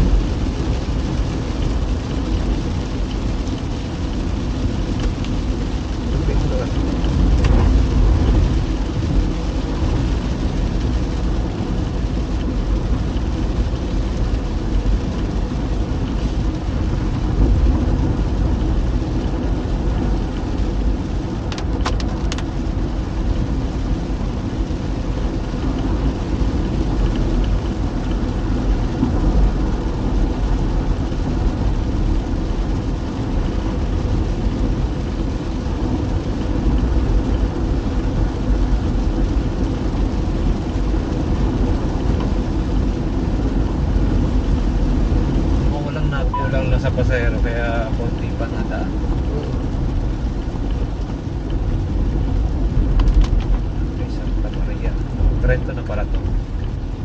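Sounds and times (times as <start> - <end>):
car engine and tyres rumbling: 0.0 - 57.0
rain hissing: 0.0 - 57.0.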